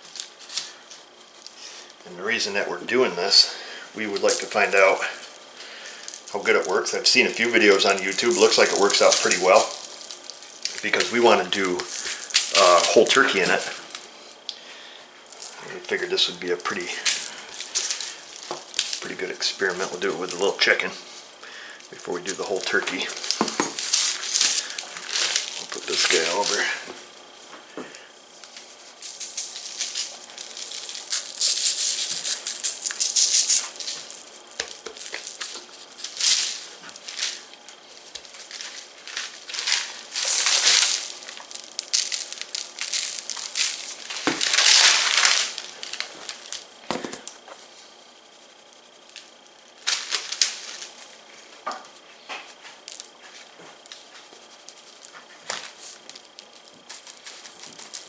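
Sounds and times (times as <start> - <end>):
seasoning granules falling: 0.0 - 2.6, 3.3 - 58.0
paper crackling and crinkling: 0.0 - 58.0.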